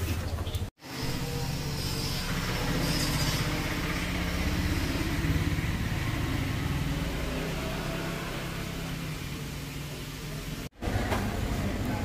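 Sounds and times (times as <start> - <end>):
engine droning: 0.8 - 12.0.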